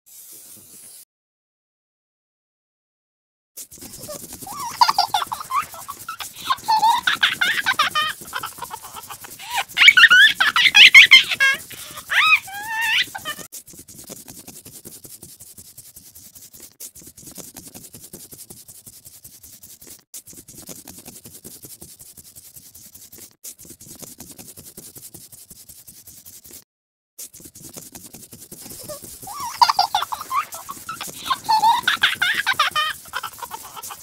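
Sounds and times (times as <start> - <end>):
crayon scribbling: 0.1 - 1.0, 3.6 - 26.6, 27.2 - 34.0.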